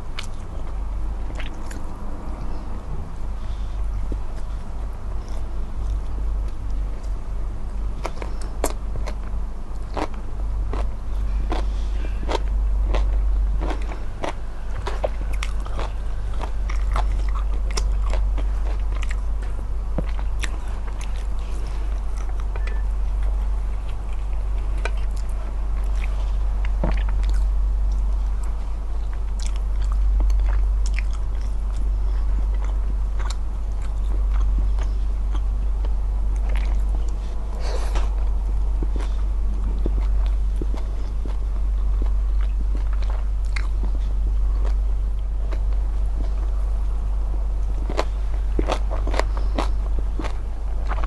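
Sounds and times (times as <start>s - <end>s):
low hum: 0.0s - 51.0s
wet chewing and crunching: 0.0s - 51.0s.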